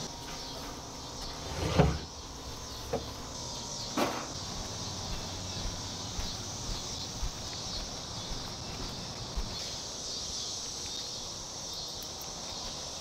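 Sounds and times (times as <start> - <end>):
high drone of insects: 0.0 - 13.0.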